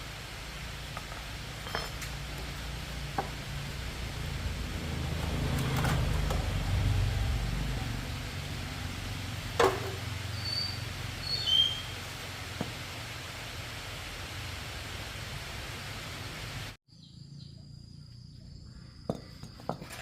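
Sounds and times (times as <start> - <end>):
engine low rumble: 0.0 - 20.0.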